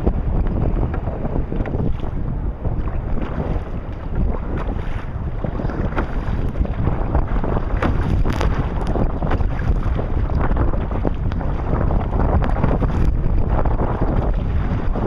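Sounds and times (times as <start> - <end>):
waves slapping against hull: 0.0 - 15.0
wind buffeting microphone: 0.0 - 15.0.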